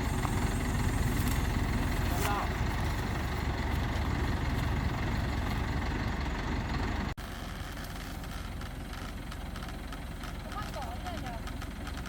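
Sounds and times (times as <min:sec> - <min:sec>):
crane engine idling: 0:00.0 - 0:12.0.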